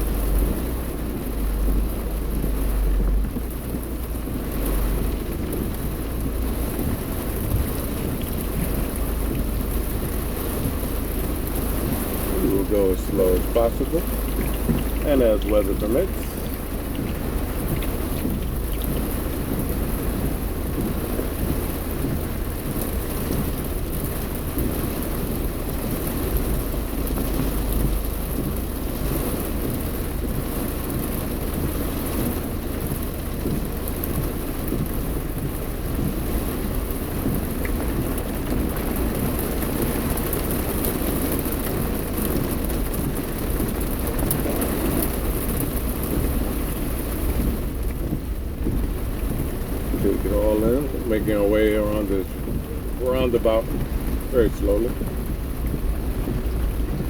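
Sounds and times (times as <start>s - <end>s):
deep low rumble: 0.0s - 57.0s
heavy rain on car: 0.0s - 57.0s.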